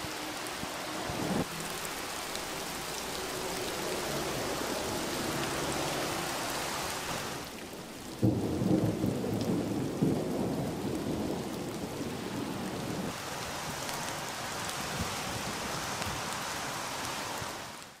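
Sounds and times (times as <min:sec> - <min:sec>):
rain splashing into puddles: 0:00.0 - 0:18.0.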